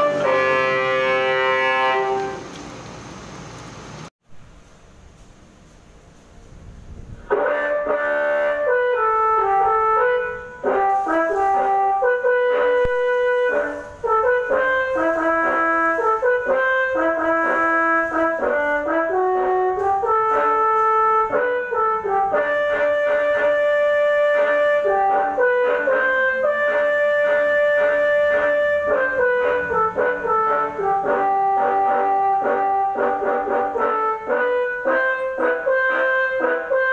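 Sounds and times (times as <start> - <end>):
bus air horn melody: 0.0 - 2.5, 7.2 - 36.9.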